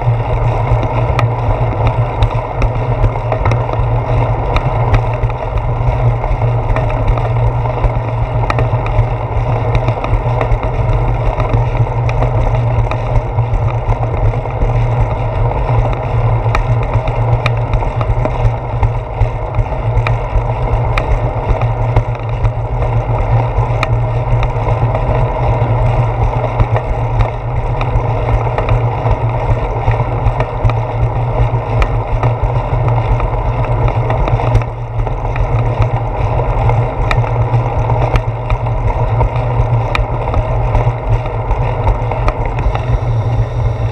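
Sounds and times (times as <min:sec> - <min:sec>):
bicycle road rumble: 0:00.0 - 0:43.9
bike clicks and knocks: 0:00.0 - 0:43.9
wind: 0:00.0 - 0:43.9.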